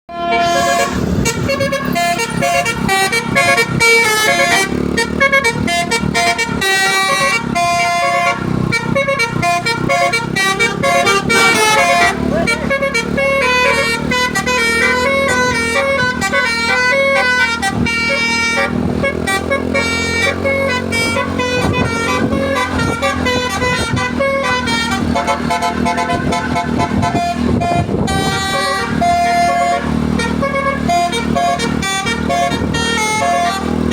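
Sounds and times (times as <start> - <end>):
bus engine running: 0.1 - 33.9
musical bus horn melody: 0.1 - 33.9.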